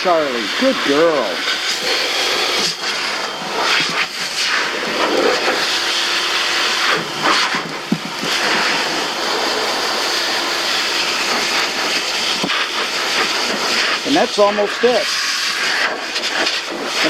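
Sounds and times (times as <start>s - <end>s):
pet dryer blowing air: 0.0s - 17.0s.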